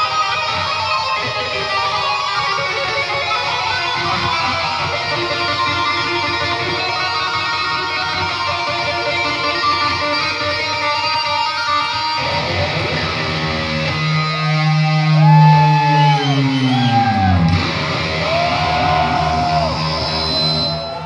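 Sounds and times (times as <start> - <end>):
electric guitar with pitch bends: 0.0 - 21.0.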